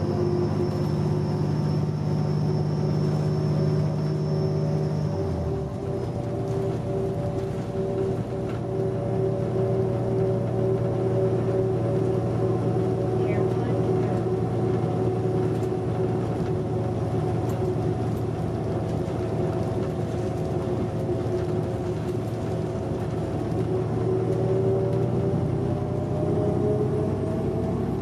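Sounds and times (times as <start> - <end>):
bus engine drone: 0.0 - 28.0
road rumble: 0.0 - 28.0.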